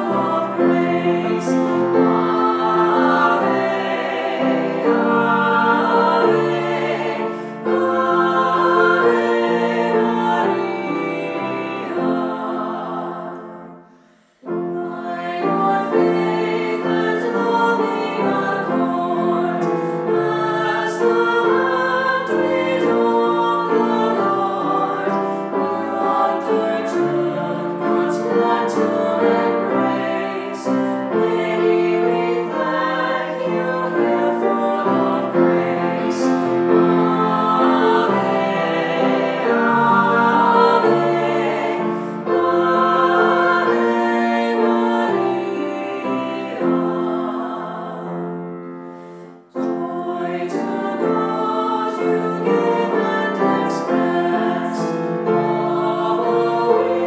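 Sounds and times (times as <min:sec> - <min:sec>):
choral hymn music: 0:00.0 - 0:57.0.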